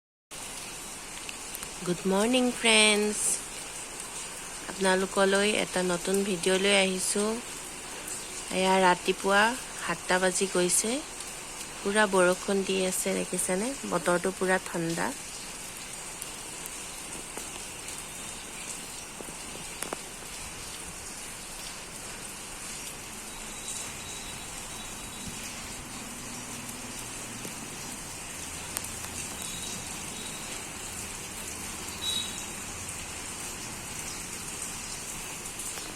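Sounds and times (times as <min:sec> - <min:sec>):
heavy rain pattering: 0:00.4 - 0:35.9.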